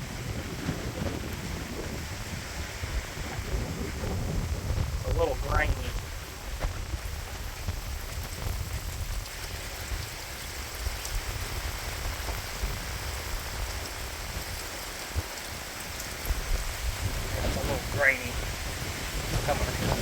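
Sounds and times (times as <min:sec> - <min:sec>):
heavy rain falling: 0:00.0 - 0:20.0
wind buffeting microphone: 0:00.0 - 0:20.0.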